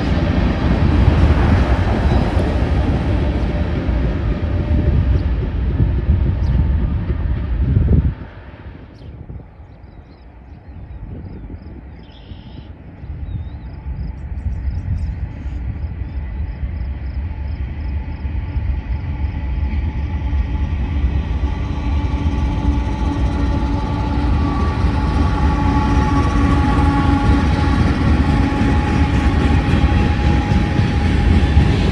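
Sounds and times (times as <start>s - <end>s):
train rumble: 0.0s - 31.9s.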